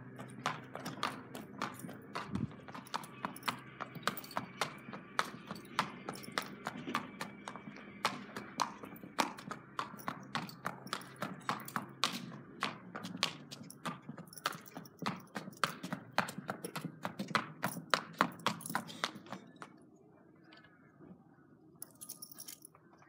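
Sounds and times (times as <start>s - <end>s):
horse hooves clip-clopping on concrete: 0.0s - 19.8s.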